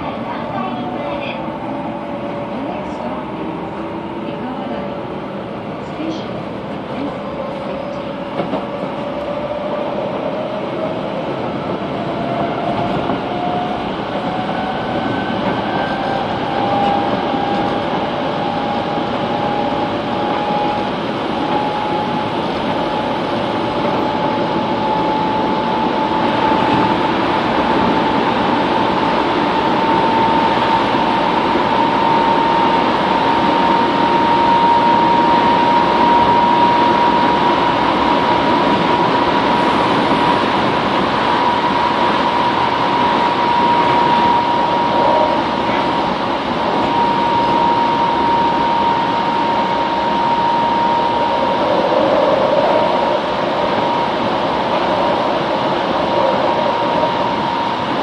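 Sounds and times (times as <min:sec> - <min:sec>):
train drive whine: 0:00.0 - 0:58.0
train rolling noise: 0:00.0 - 0:58.0.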